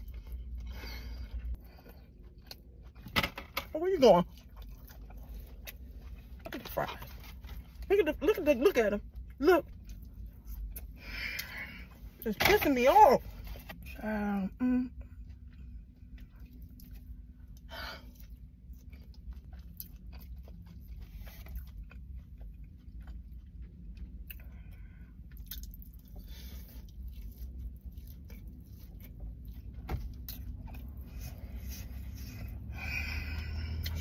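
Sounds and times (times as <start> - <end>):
chewing french fries: 0.0 - 3.1, 3.9 - 11.9, 14.9 - 34.0
steady low hum: 0.0 - 34.0.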